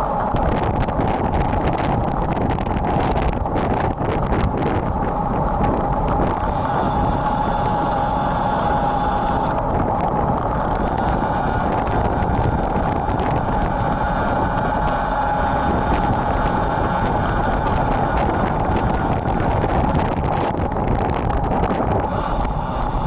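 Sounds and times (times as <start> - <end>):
steady whine: 0.0 - 23.0
wind rumbling on microphone: 0.0 - 23.0.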